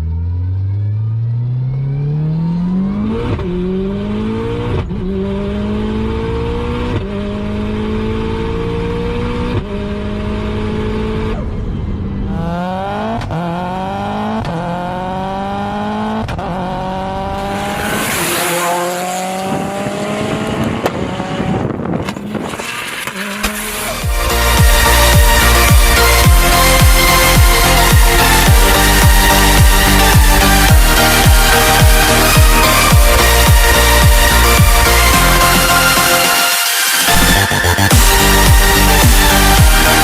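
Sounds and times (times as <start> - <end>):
car engine accelerating hard: 0.0 - 40.0.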